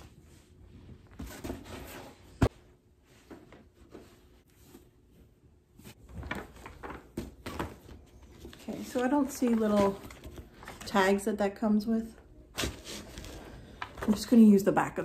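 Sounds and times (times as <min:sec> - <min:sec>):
fabric and card rustling: 0:00.0 - 0:11.3, 0:12.5 - 0:14.6.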